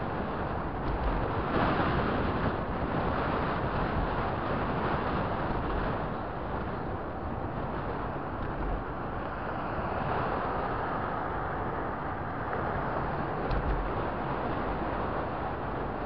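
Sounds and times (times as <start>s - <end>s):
car road noise: 0.0s - 16.0s.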